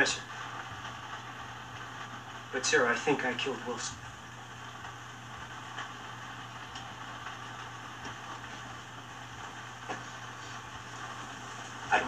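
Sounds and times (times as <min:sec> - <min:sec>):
faint hiss: 0:00.0 - 0:12.0
steady low hum: 0:00.0 - 0:12.0.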